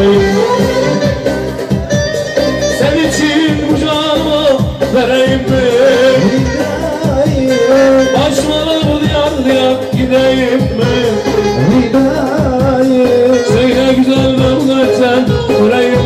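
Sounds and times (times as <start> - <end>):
man singing: 0.0 - 1.8, 2.5 - 16.0
keyboard drum beat and melody: 0.0 - 16.0.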